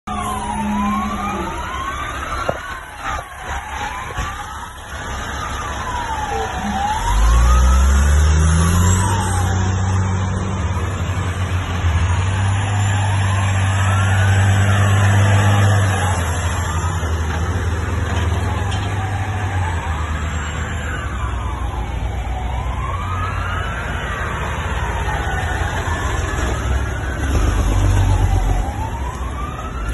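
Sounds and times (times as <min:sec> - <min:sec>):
heavy truck engines: 0:00.1 - 0:29.9
siren wailing: 0:00.1 - 0:29.9.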